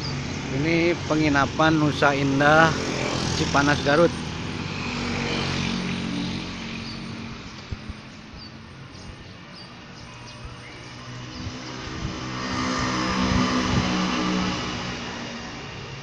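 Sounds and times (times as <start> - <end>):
vehicle engines passing: 0.0 - 16.0.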